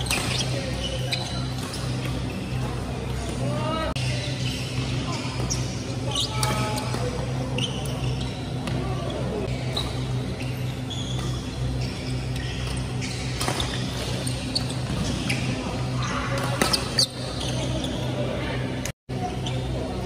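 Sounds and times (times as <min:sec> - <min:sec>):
sports shoes squeaking: 0:00.0 - 0:18.4
steady low hum: 0:00.0 - 0:20.0.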